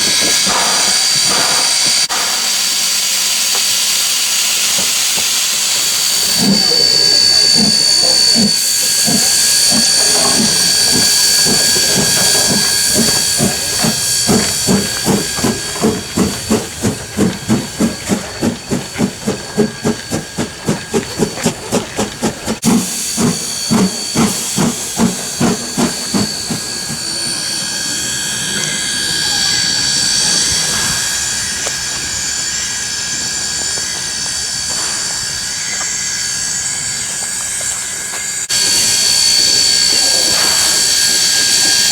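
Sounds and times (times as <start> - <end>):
steam hissing: 0.0 - 41.9
steam locomotive exhaust beats: 0.0 - 41.9.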